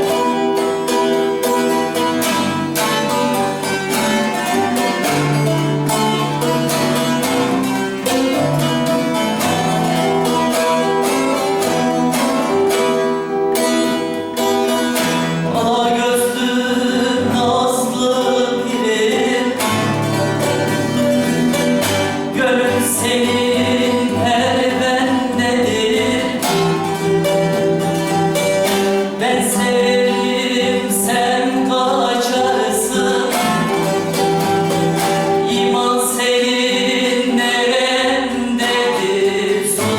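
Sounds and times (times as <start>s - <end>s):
person singing: 0.0s - 39.9s
plucked lute and acoustic guitar: 0.0s - 39.9s.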